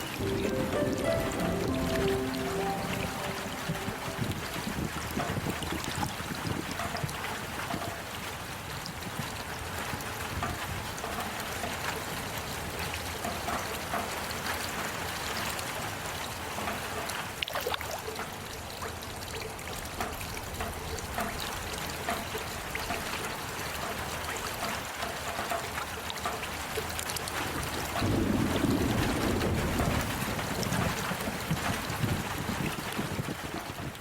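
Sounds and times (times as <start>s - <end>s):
small waterfall trickling: 0.0s - 34.0s.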